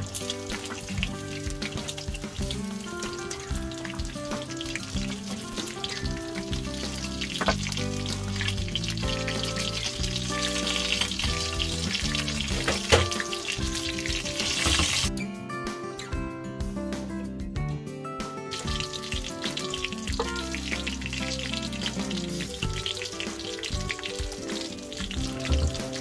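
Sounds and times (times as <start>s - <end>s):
food sizzling in hot oil: 0.0s - 15.1s, 18.5s - 26.0s
background music: 0.0s - 26.0s.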